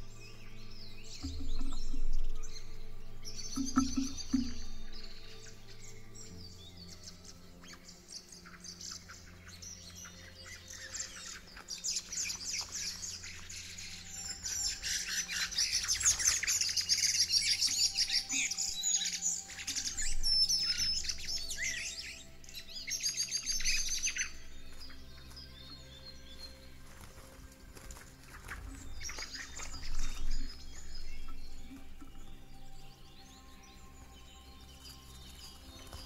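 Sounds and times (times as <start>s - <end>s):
songbirds chirping and trilling: 0.0s - 36.0s.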